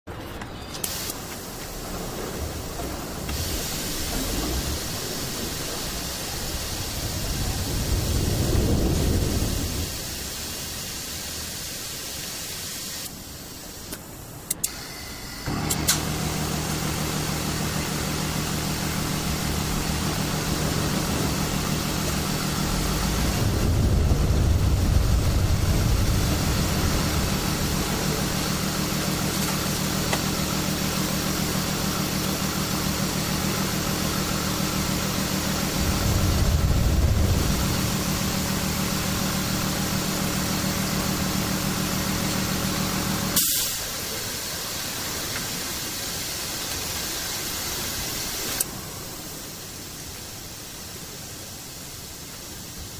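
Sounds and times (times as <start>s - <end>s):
car engine idling: 0.1s - 12.5s, 13.1s - 51.1s
steady hiss: 0.5s - 52.9s.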